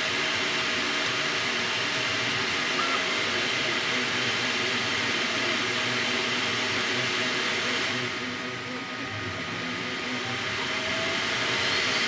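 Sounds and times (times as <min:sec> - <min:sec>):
printer whirring: 0:00.0 - 0:12.0.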